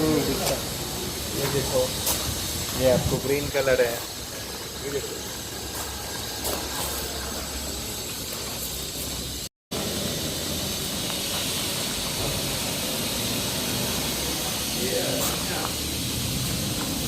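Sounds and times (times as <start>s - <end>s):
steady hissing noise: 0.0s - 17.0s.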